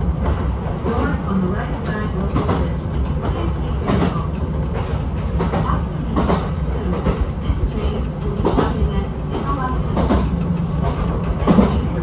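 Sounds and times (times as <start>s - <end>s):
train rumble: 0.0s - 12.0s
wheels clacking over rail joints: 1.8s - 12.0s.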